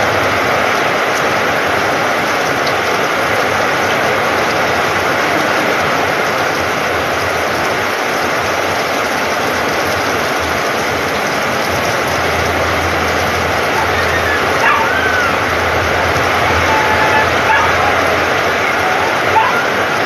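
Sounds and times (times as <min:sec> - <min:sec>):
rain drumming on metal roof: 0:00.0 - 0:20.0
rain splashing into puddles: 0:00.0 - 0:20.0.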